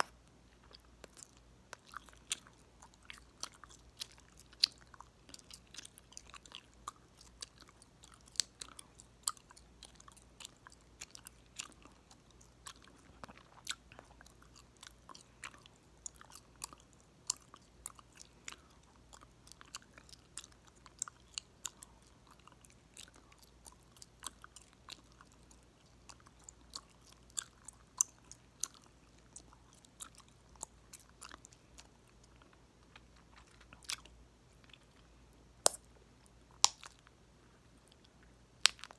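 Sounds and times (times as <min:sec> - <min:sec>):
gum popping and snapping: 0:00.0 - 0:35.0, 0:35.6 - 0:37.1, 0:37.9 - 0:38.9
gum chewing: 0:00.0 - 0:38.9.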